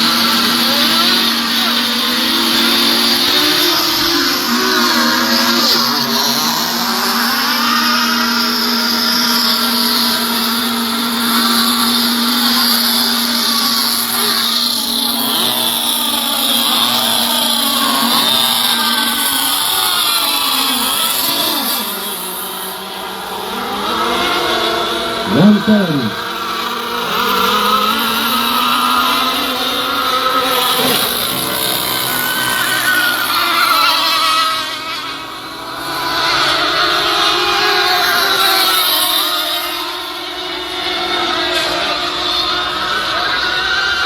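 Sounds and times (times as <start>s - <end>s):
model boat engines whining: 0.0s - 44.0s.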